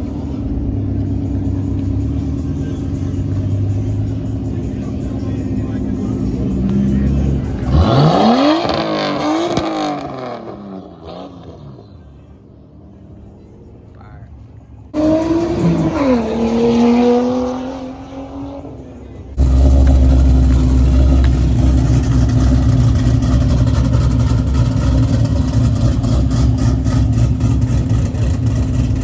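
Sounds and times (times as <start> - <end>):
loud engine drone with low rumble: 0.0 - 10.2, 12.0 - 29.0.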